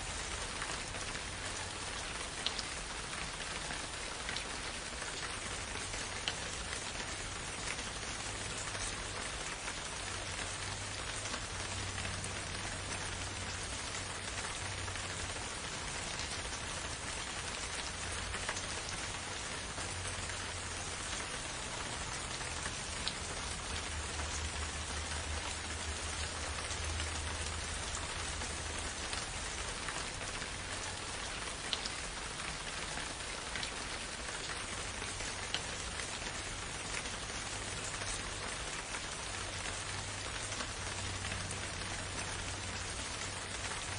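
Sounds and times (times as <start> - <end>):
steady rain falling: 0.0 - 43.9
raindrop ticks: 0.3 - 43.9.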